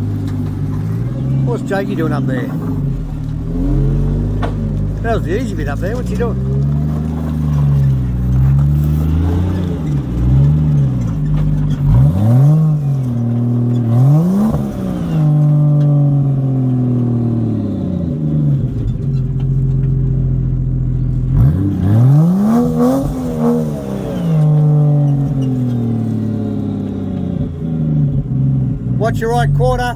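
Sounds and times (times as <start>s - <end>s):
engine revving: 0.0s - 29.9s.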